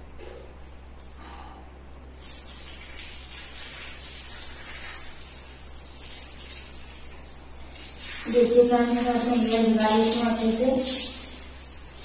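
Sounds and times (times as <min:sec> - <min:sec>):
shower sprayer hissing: 0:02.1 - 0:12.0.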